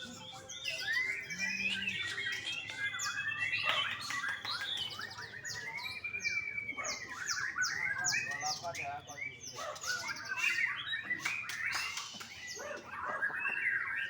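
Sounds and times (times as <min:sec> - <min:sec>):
bird singing whistles and chirps: 0:00.0 - 0:14.0.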